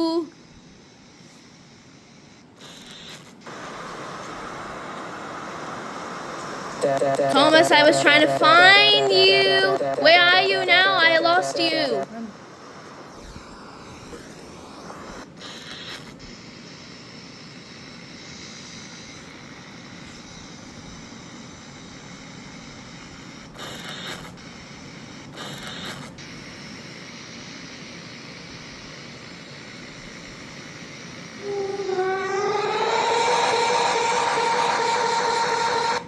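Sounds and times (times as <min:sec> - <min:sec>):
short bursts of hiss: 0:00.0 - 0:06.8, 0:12.1 - 0:36.0.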